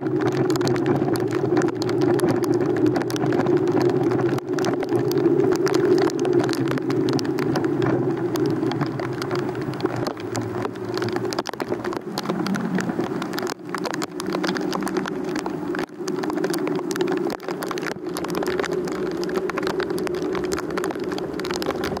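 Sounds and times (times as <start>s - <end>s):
rain drop taps: 0.0s - 22.0s.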